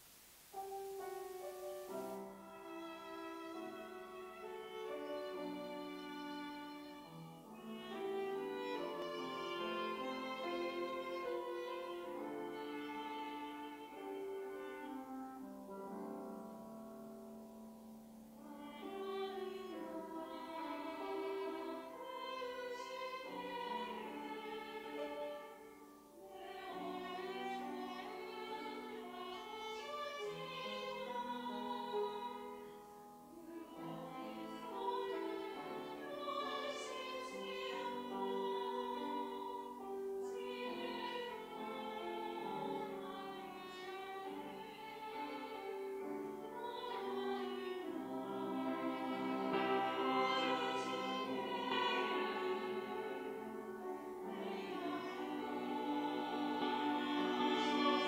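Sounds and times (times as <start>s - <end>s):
choir singing: 0.6s - 17.5s, 18.3s - 58.0s.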